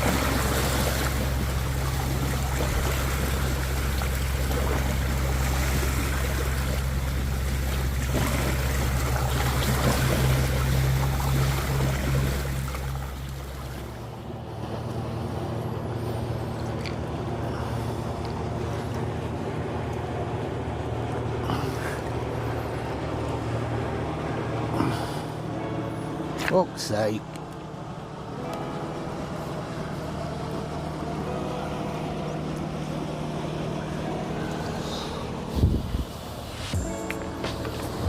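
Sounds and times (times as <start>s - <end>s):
engine humming: 0.0s - 38.0s.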